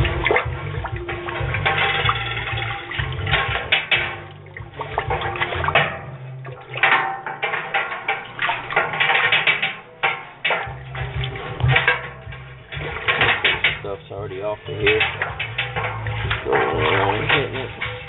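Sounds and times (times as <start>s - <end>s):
cleaning solution sloshing: 0.0s - 18.0s
knocks against metal: 0.0s - 18.0s
scrub brush scraping metal kettle: 0.0s - 18.0s.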